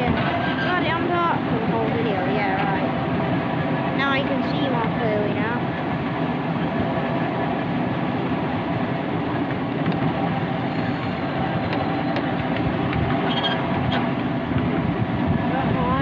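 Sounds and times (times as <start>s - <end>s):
train wheels on track: 0.0s - 16.0s.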